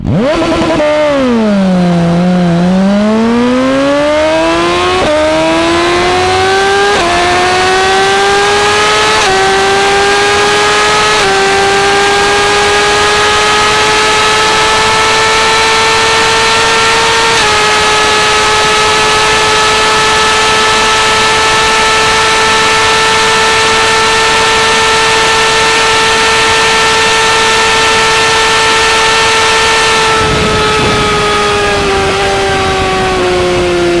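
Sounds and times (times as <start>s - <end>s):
motorcycle engine accelerating: 0.0s - 34.0s
quickshifter upshifts: 0.0s - 34.0s.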